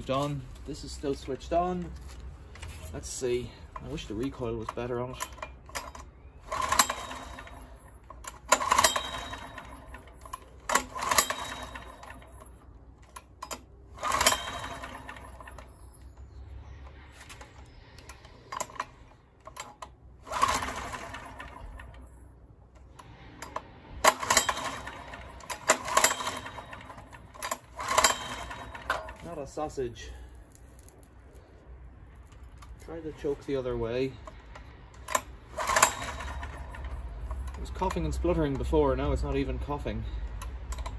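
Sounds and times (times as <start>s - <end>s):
generator recoil starter pulls: 0.0s - 40.9s.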